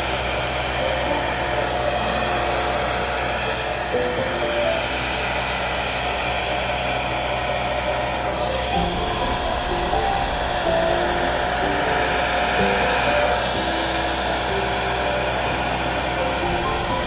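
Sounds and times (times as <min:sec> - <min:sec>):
hair dryer blowing: 0:00.0 - 0:17.0.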